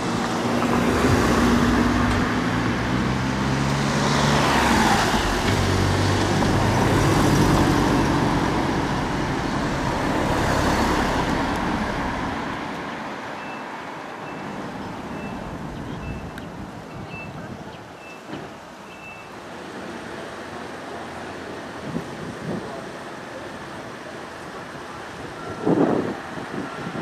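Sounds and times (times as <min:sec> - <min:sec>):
vehicles passing on street: 0:00.0 - 0:27.0.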